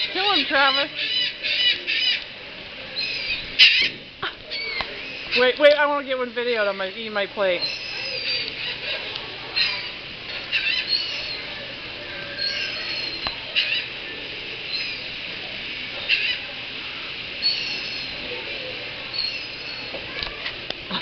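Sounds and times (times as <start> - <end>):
seagulls calling: 0.0 - 21.0
steady background hiss: 0.0 - 21.0.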